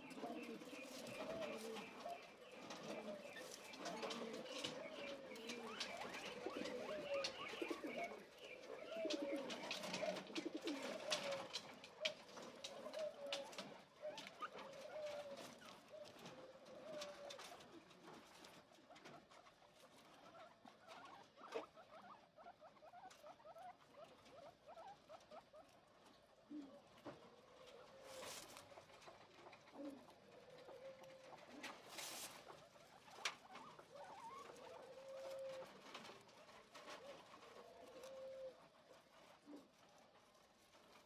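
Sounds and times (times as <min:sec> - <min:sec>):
guinea pigs chewing grass: 0:00.0 - 0:41.0.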